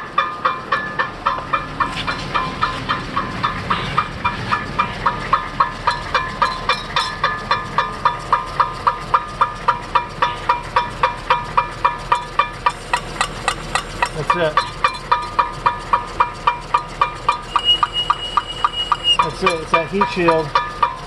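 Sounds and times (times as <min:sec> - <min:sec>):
brake rotor scraping heat shield: 0:00.0 - 0:21.0.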